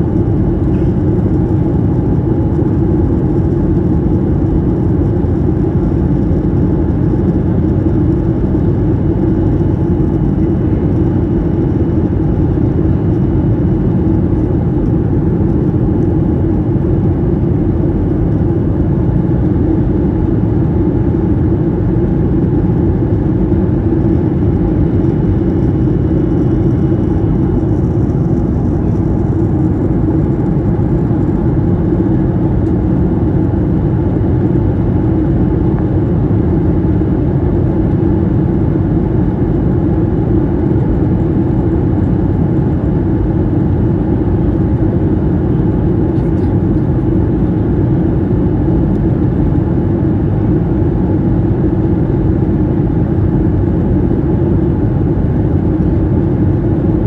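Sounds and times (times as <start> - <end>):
engine rumble and rushing air: 0.0 - 57.0.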